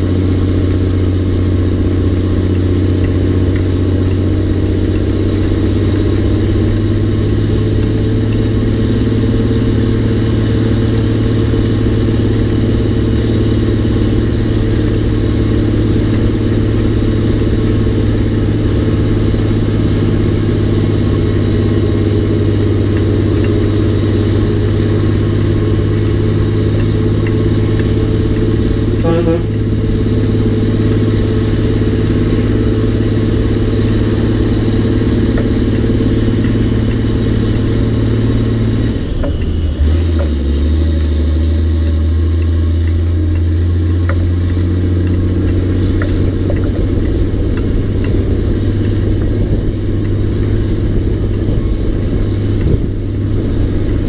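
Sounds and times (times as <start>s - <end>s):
diesel truck engine pulling: 0.0s - 54.0s.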